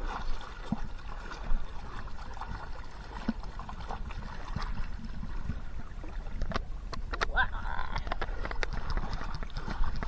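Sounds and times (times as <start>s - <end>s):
river water lapping: 0.0s - 10.0s.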